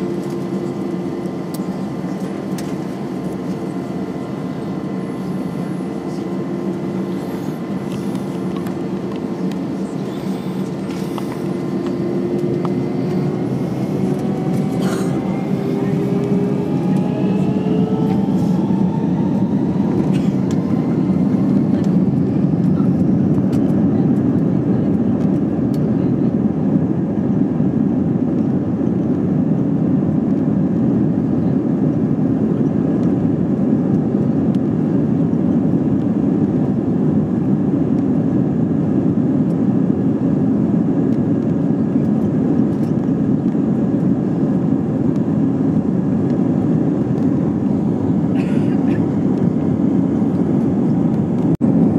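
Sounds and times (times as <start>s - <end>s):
jet engines rumbling in cabin: 0.0s - 51.9s
jet engines whining: 0.0s - 51.9s.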